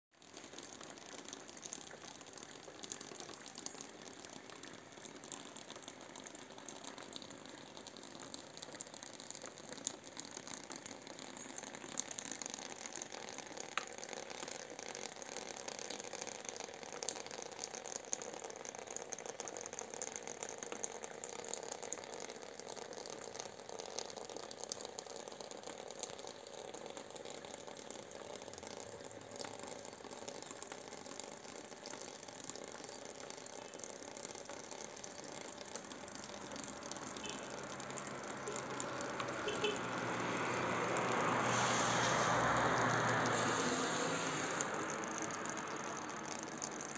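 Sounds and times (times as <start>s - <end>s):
meltwater trickling: 0.1s - 46.9s.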